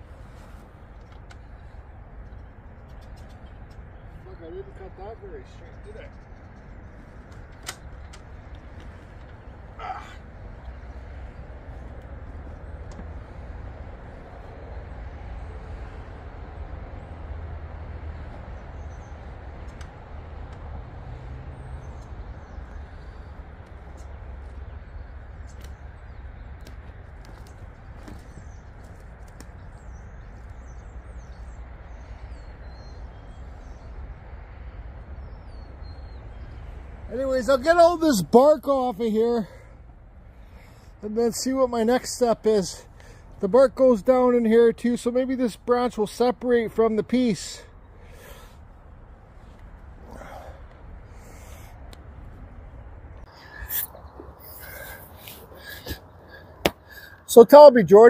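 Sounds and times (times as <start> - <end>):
small birds chirping: 0.0 - 17.3, 18.1 - 58.0.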